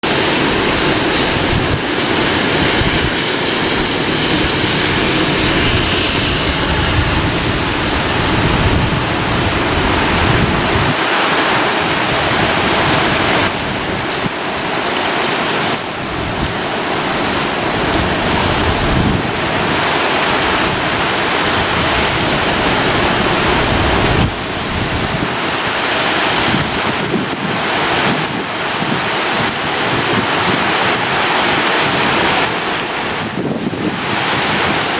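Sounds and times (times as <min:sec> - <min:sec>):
strong wind gusting: 0:00.0 - 0:34.9
wind buffeting microphone: 0:00.0 - 0:34.9.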